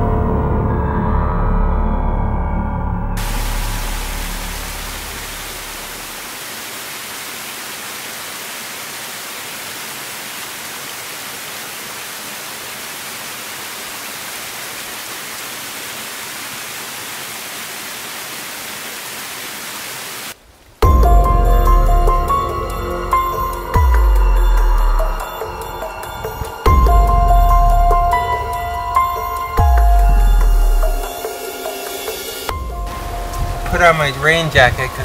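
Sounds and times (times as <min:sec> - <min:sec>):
rushing water hiss: 0:03.2 - 0:20.8, 0:22.2 - 0:35.0.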